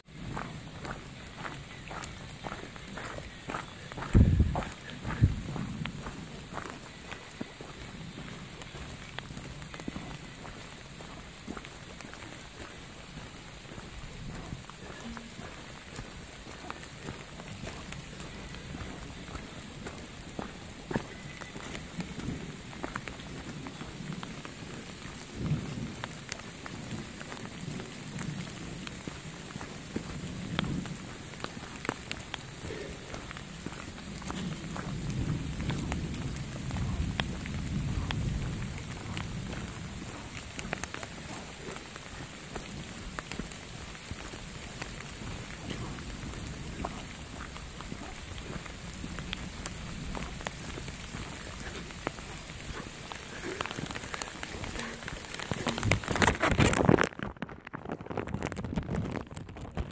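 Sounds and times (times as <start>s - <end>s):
rain pattering: 0.0s - 59.9s
thunder rumbling: 0.1s - 57.0s.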